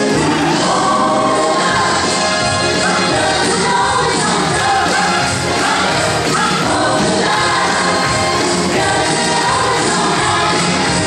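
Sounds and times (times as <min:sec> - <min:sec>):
latin dance music with singing: 0:00.0 - 0:11.0.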